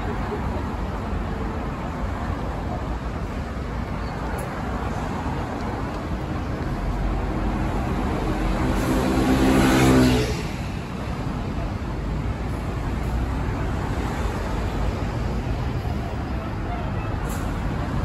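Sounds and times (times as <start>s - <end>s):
city road traffic noise: 0.0s - 18.0s.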